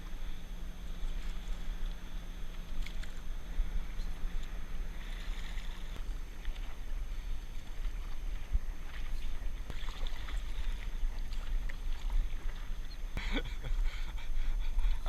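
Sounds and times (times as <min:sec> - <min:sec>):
wind rumble on microphone: 0:00.0 - 0:15.0
paddle splashing in water: 0:01.0 - 0:13.4.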